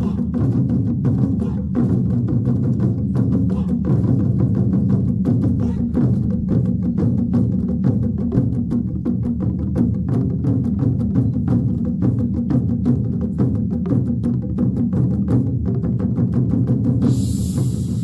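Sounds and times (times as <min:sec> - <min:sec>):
deep drums playing rhythm: 0:00.0 - 0:18.0.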